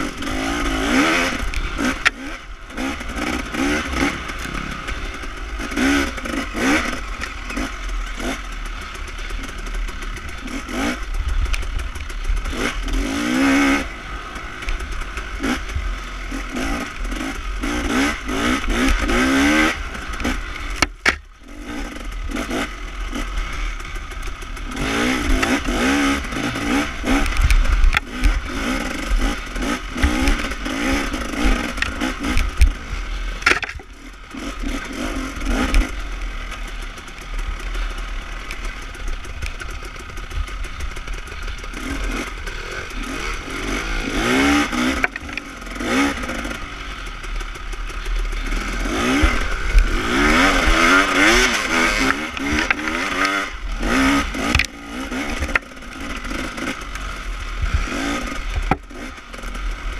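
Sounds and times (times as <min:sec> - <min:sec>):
clatter and scraping: 0:00.0 - 0:13.4, 0:14.3 - 0:59.9
dirt bike engine revving: 0:00.0 - 0:59.9.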